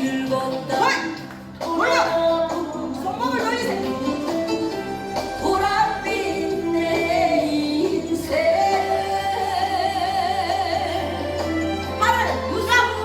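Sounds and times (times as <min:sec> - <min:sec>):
backing music: 0:00.0 - 0:13.0.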